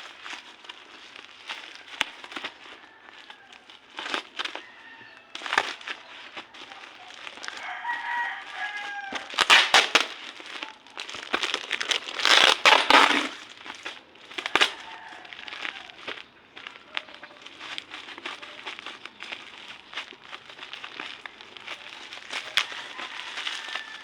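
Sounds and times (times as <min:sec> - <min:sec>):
packaging crinkling and rustling: 0:00.0 - 0:24.0.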